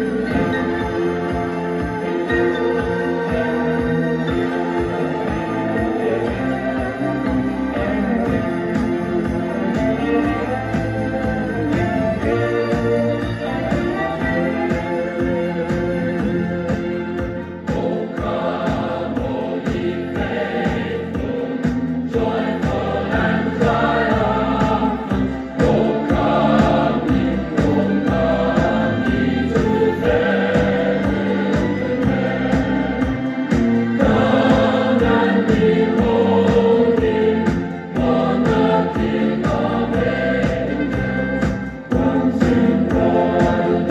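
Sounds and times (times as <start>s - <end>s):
choir singing christmas music: 0.0s - 43.9s.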